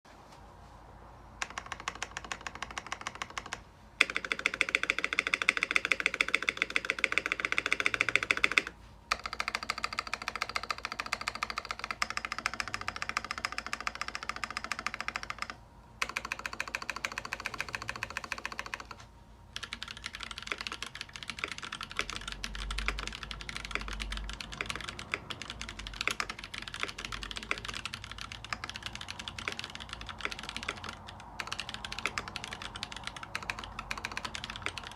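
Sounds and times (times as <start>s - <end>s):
mechanical keyboard key clacks: 1.4s - 19.0s, 19.6s - 34.9s.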